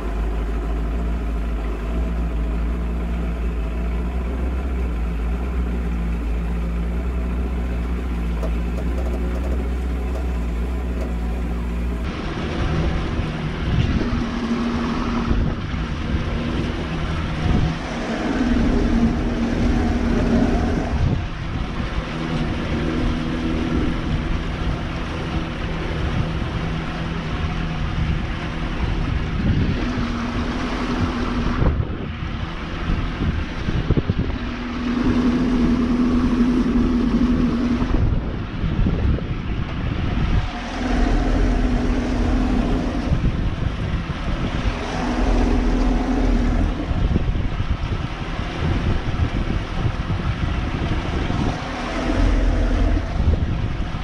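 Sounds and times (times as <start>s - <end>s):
outboard motor running: 0.0s - 54.0s
water rushing past hull: 0.0s - 54.0s
wind noise on microphone: 0.0s - 54.0s.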